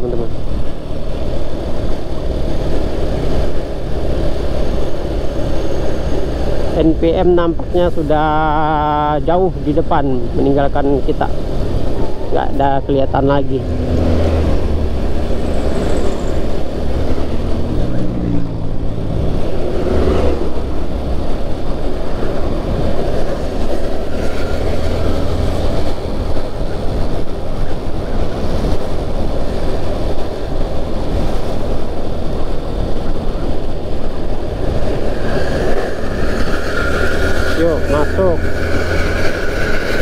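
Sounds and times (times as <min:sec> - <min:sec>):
vehicle engine and road noise: 0:00.0 - 0:40.0.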